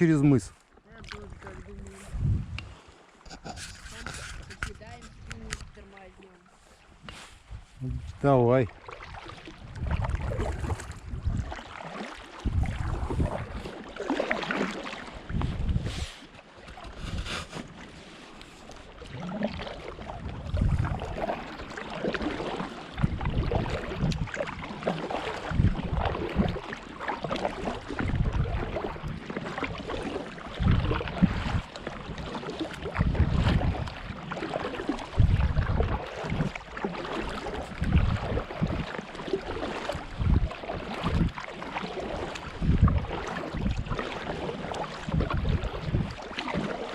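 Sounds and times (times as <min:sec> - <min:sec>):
wind buffeting microphone: 0:00.0 - 0:06.1, 0:09.3 - 0:11.7, 0:12.3 - 0:13.7, 0:15.2 - 0:17.6, 0:19.1 - 0:21.5, 0:22.2 - 0:26.7, 0:27.5 - 0:41.4, 0:42.2 - 0:46.5
water noise from boat: 0:00.0 - 0:46.9.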